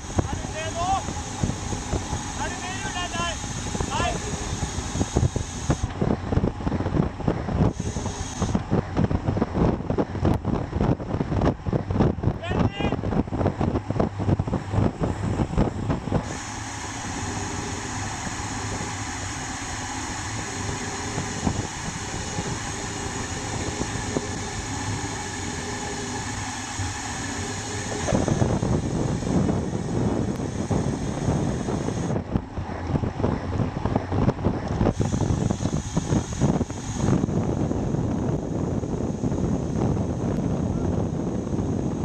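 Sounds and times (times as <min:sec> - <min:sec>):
bicycle freehub ratchet buzzing: 0:00.0 - 0:10.3, 0:12.7 - 0:32.2, 0:34.4 - 0:42.0
wind buffeting microphone: 0:00.0 - 0:42.0.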